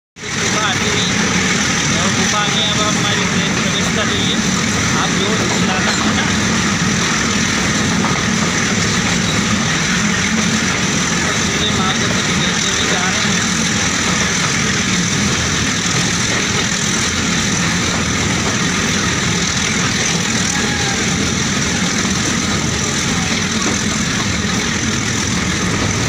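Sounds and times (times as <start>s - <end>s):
passenger train rumbling: 0.2s - 26.0s.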